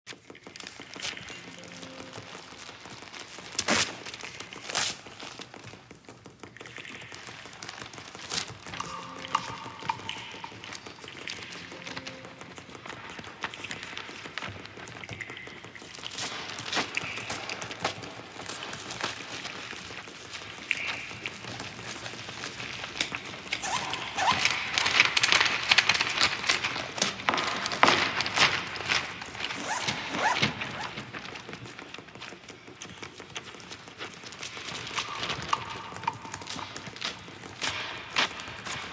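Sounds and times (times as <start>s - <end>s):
loud crinkling rustles: 0.1s - 38.9s
small clicks and rustles: 0.1s - 38.9s.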